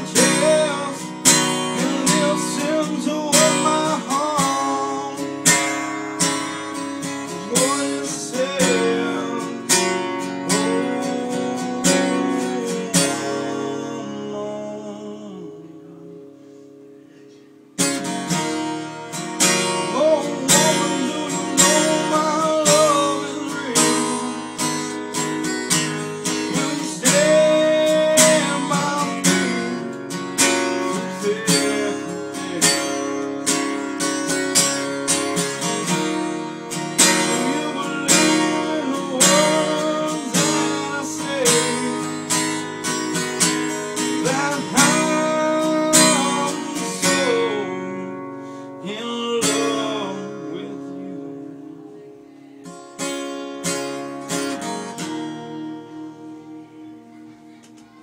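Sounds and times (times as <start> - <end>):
man singing: 0.0 - 16.5, 18.4 - 34.1, 35.2 - 53.1
acoustic guitar strumming: 0.0 - 58.0.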